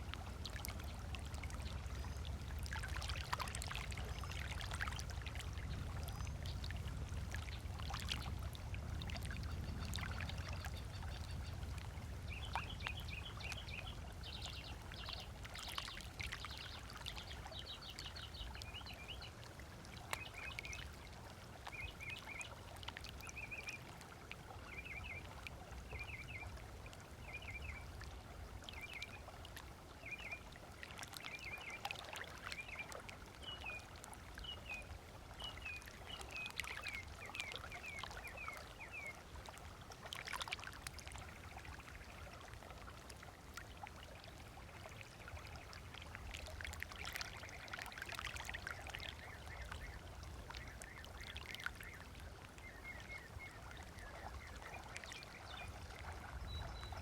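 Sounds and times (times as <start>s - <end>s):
small waves lapping: 0.0s - 57.0s.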